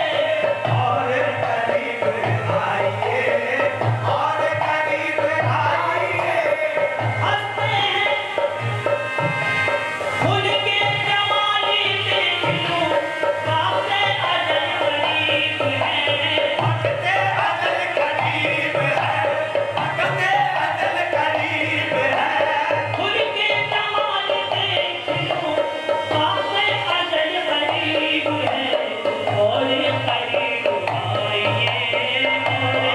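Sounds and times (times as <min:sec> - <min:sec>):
hand drum rhythm: 0:00.0 - 0:32.9
harmonium: 0:00.0 - 0:32.9.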